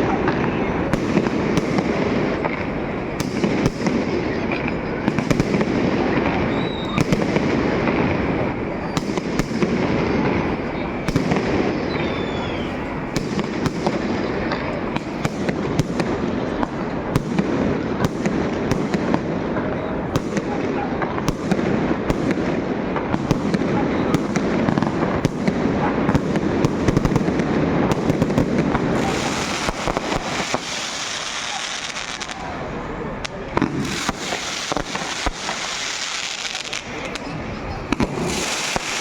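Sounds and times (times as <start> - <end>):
firecrackers crackling: 0.0 - 39.0
firework bangs: 0.0 - 39.0.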